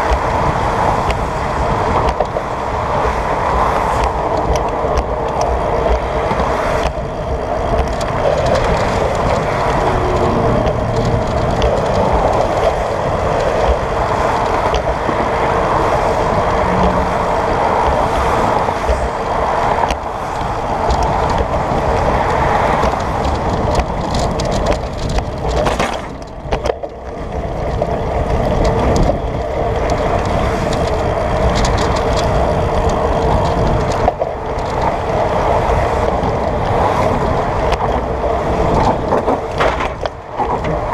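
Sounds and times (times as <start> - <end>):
bike clicks and rattles: 0.0 - 40.9
passing car traffic: 0.0 - 40.9
wind and rolling tyres rumble: 0.0 - 40.9.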